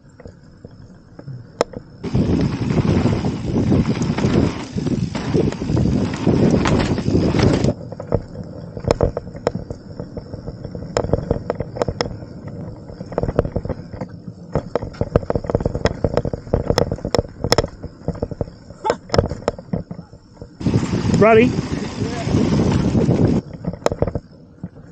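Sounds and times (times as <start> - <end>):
mountain bike rattling: 0.0 - 24.9.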